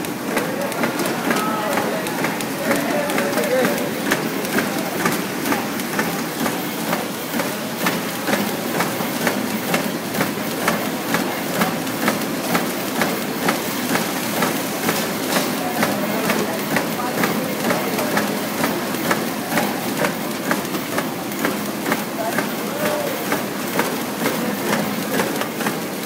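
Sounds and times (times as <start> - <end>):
wrapping machine clattering: 0.0 - 26.0.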